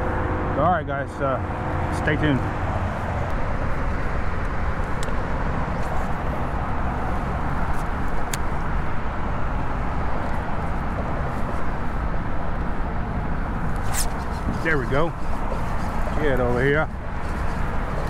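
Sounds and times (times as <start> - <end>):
road traffic rumble and hiss: 0.0 - 18.0.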